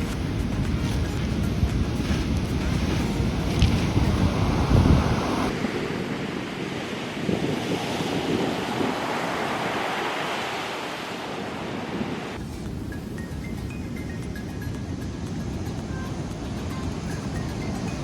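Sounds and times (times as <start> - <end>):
surf breaking and washing ashore: 0.0 - 18.0
wind buffeting microphone: 0.0 - 18.0.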